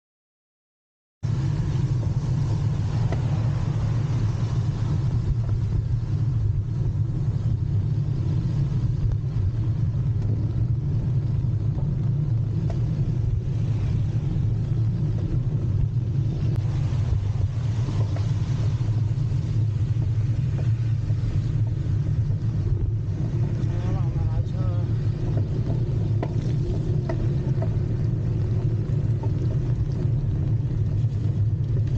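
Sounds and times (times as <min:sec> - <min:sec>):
motor traffic: 0:01.2 - 0:31.9
tires on wet road: 0:01.2 - 0:31.9.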